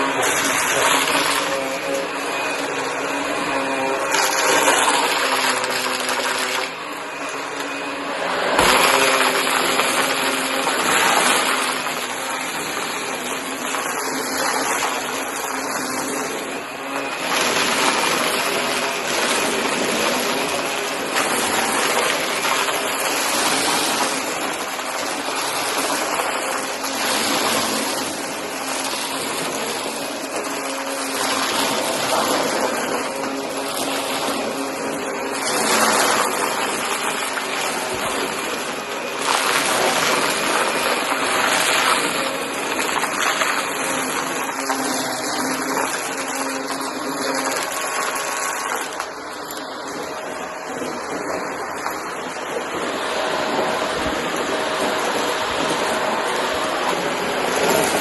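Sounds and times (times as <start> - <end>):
vacuum cleaner sucking up cardboard: 0.0 - 58.0.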